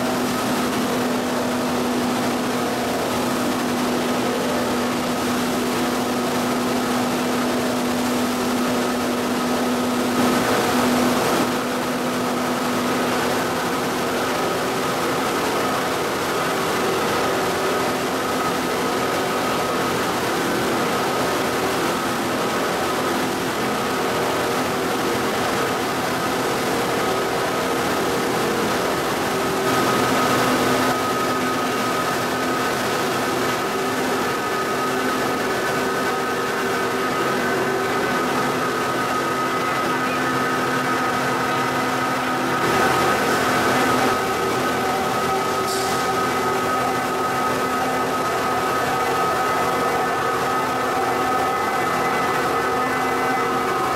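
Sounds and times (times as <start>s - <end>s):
machinery drone with whine: 0.0s - 53.9s.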